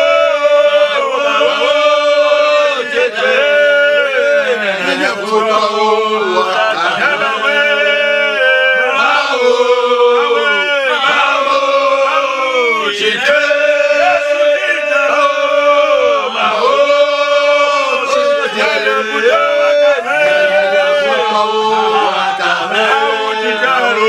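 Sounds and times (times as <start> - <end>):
men singing a prayer chant: 0.0 - 24.0.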